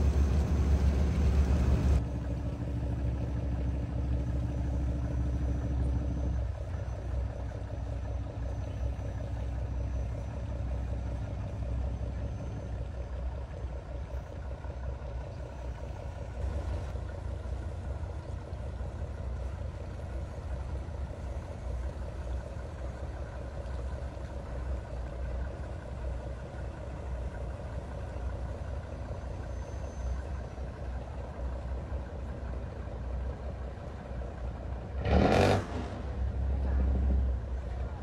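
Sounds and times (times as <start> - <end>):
boat diesel engine rumbling: 0.0 - 38.0.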